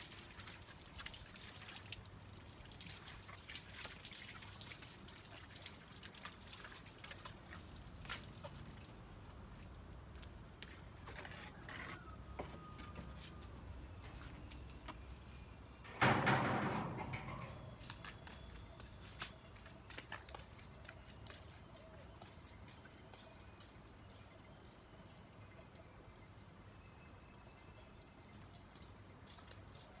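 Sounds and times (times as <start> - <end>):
water dripping and trickling: 0.0 - 15.9, 16.8 - 26.6, 27.3 - 30.0.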